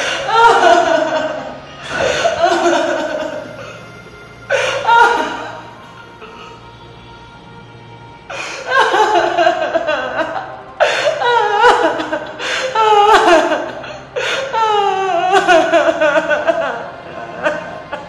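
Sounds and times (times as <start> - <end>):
woman wailing and sobbing: 0.0 - 3.9, 4.5 - 6.8, 8.3 - 18.0.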